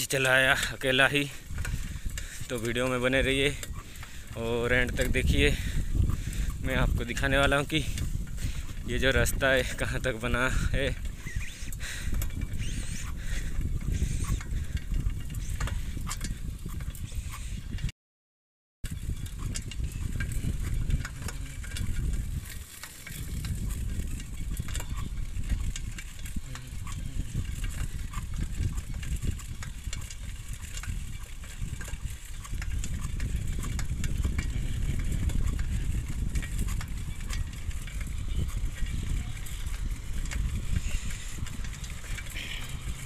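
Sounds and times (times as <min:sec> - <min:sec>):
bicycle tyres crackling on grit: 0:00.0 - 0:17.8, 0:18.8 - 0:43.0
wind buffeting microphone: 0:00.0 - 0:17.9, 0:18.8 - 0:43.0.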